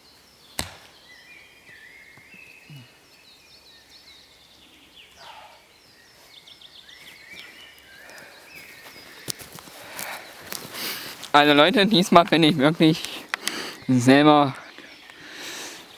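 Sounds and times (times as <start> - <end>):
songbirds singing: 0.0 - 15.9.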